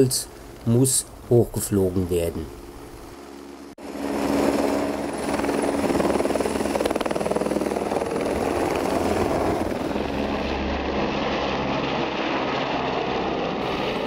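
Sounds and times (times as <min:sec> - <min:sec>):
helicopter rotor chopping: 0:00.0 - 0:14.0.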